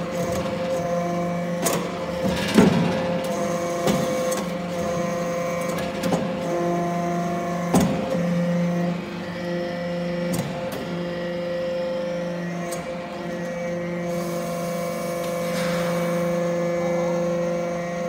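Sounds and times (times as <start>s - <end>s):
hydraulic power unit hum: 0.0s - 18.0s.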